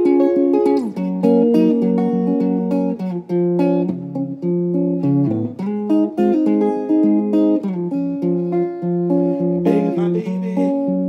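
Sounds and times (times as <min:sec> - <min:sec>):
clean electric guitar melody: 0:00.0 - 0:11.0.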